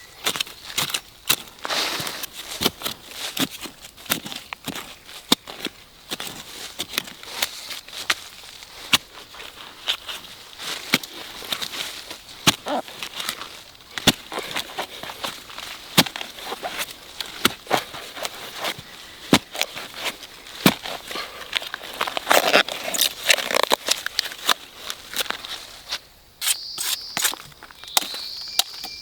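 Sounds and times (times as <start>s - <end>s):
dry leaves and twigs snapping: 0.0s - 29.0s.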